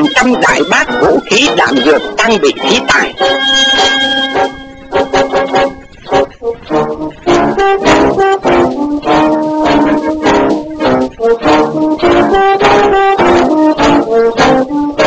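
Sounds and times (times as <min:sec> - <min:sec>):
brass background music: 0:00.0 - 0:15.0.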